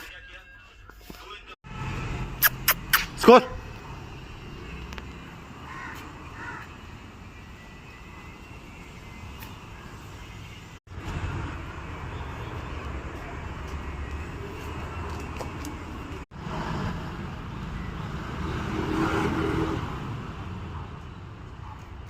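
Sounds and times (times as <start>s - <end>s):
road traffic noise: 1.1s - 22.0s
vehicle passing: 1.7s - 7.8s, 8.4s - 22.0s.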